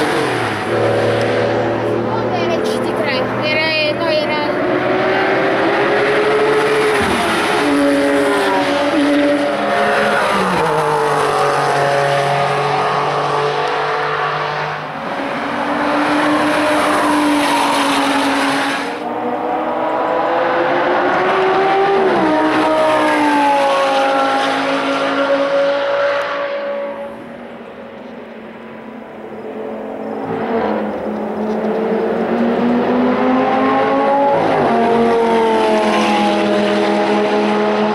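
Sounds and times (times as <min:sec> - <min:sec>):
sports car engines passing: 0:00.0 - 0:37.9.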